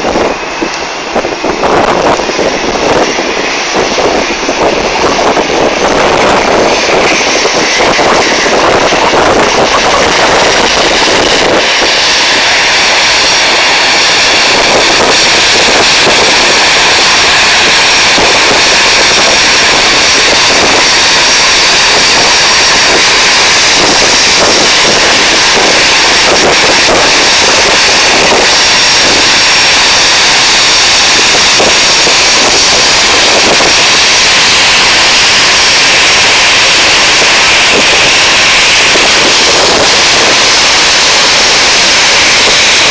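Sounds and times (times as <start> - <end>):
jet airliner engines: 0.0 - 42.9.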